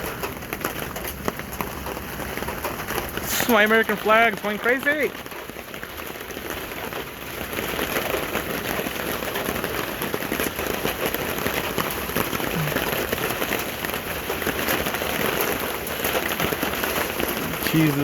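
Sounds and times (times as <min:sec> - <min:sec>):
rain pattering on tent canopy: 0:00.0 - 0:18.0.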